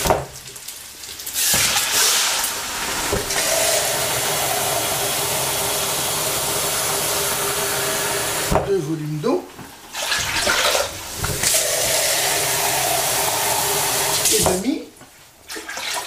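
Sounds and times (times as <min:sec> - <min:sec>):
water hissing in hot pan: 0:00.0 - 0:08.6, 0:09.7 - 0:14.8.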